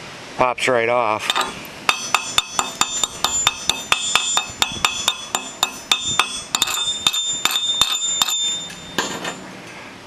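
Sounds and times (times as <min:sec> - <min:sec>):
chipping hammer tapping metal: 0:01.3 - 0:09.5.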